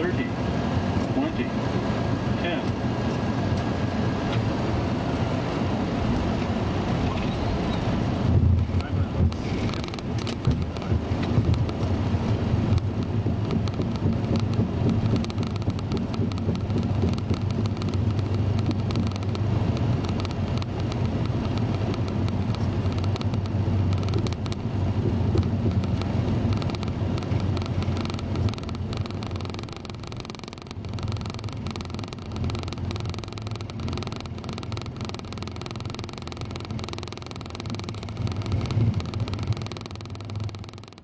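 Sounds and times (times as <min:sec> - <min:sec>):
jet engine and runway rumble: 0:00.0 - 0:41.0.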